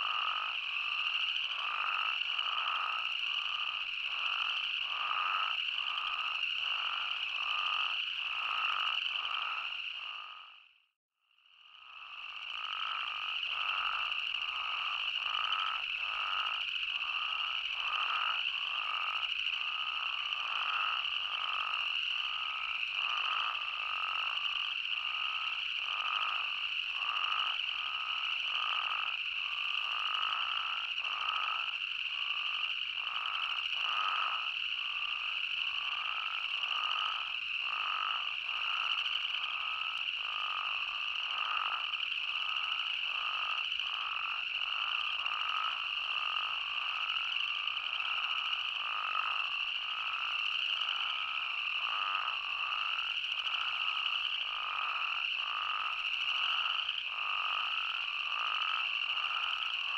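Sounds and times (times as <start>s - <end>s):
chorus of toads calling: 0.0s - 10.7s, 11.6s - 59.9s.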